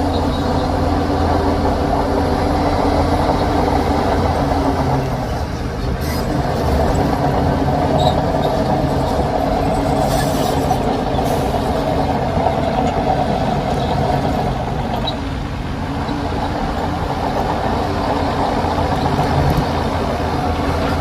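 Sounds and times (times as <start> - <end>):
diesel machinery engine drone: 0.0 - 21.0.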